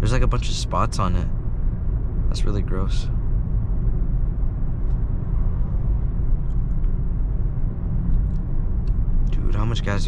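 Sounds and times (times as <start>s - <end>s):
car engine running: 0.0s - 10.0s
tyre and road noise: 0.0s - 10.0s.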